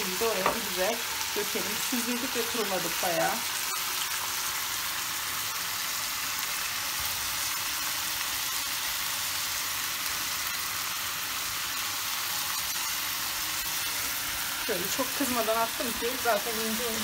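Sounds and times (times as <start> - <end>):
minced meat frying: 0.0 - 17.0
oil frying sizzle: 0.0 - 17.0.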